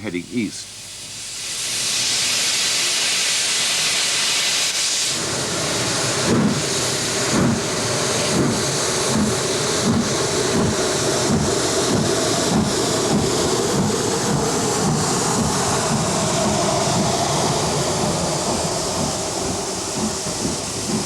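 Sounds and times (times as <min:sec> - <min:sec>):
steam locomotive exhaust beats: 0:00.0 - 0:21.0
steam locomotive hissing: 0:00.0 - 0:21.0.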